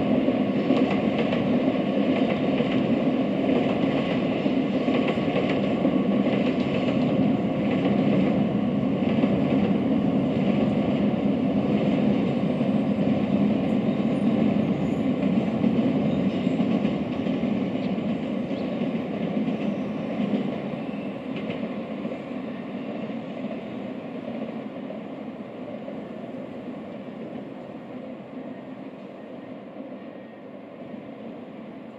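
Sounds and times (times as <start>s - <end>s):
train rolling on tracks: 0.0s - 31.9s.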